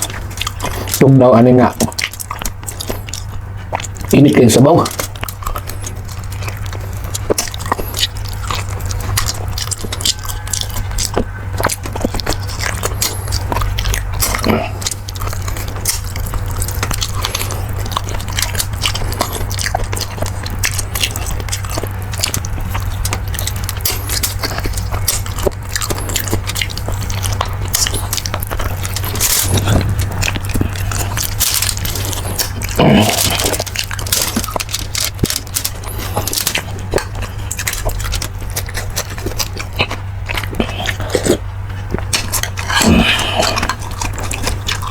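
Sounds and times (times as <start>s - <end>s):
person chewing food: 0.0s - 44.9s
steady low hum: 0.0s - 44.9s
wet mouth clicks and smacks: 0.0s - 44.9s.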